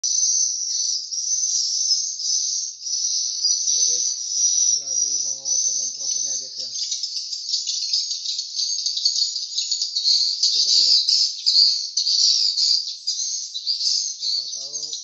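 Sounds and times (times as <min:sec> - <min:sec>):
swiftlets chirping: 0:00.1 - 0:15.0.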